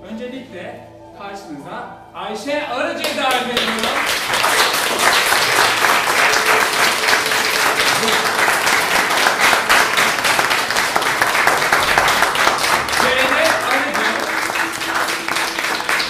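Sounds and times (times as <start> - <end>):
audience applauding: 3.0 - 16.0.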